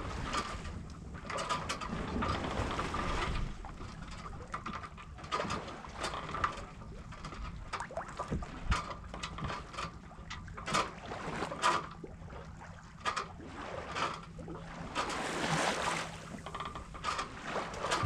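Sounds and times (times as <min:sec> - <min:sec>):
water lapping against hull: 0:00.0 - 0:18.0.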